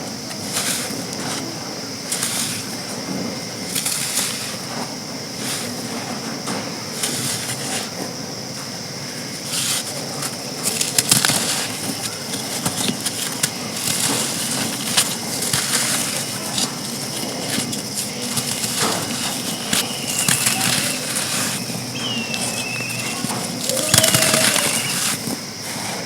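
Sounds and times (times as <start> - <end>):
sand crunching by hand: 0.3 - 6.1, 9.2 - 26.0.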